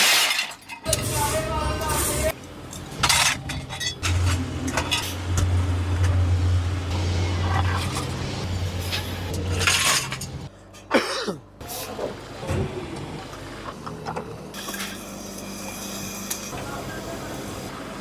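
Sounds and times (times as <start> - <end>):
workshop machinery humming: 0.7 - 18.0.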